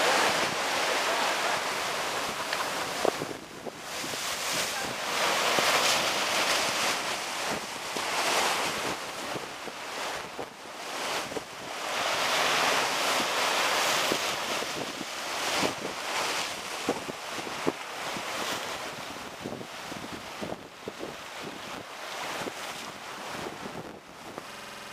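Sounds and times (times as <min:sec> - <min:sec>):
wind buffeting microphone: 0:00.0 - 0:11.8, 0:13.9 - 0:24.9
waves washing and breaking: 0:00.0 - 0:24.9.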